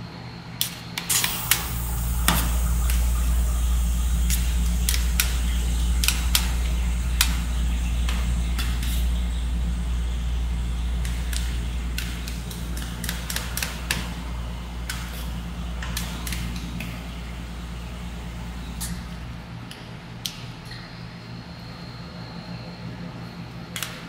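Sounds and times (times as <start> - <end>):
steady low hum: 0.0 - 23.7.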